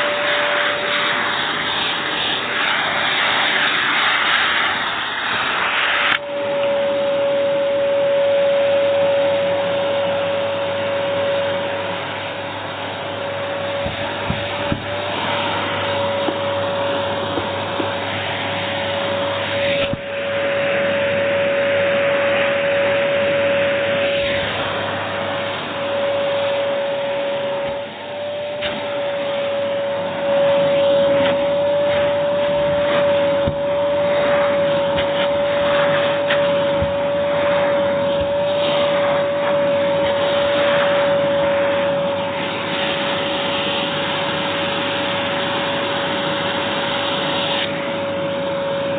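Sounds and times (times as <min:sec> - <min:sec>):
rush of air: 0:00.0 - 0:48.9
vacuum cleaner motor whine: 0:00.0 - 0:48.9.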